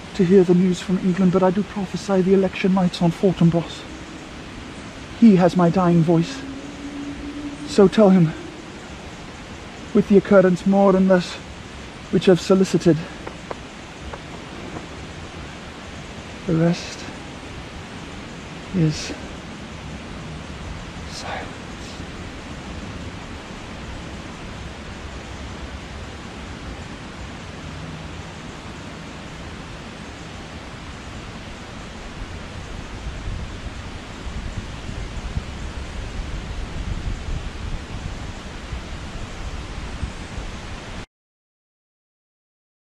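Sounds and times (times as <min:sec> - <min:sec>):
wind rumbling on microphone: 0:00.0 - 0:41.0
outdoor forest hiss: 0:00.0 - 0:41.1.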